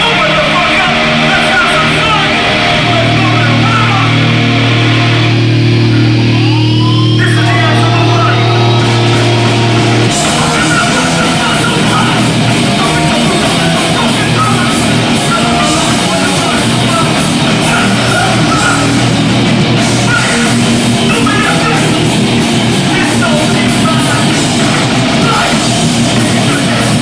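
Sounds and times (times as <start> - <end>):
punk band playing live: 0.0 - 27.0.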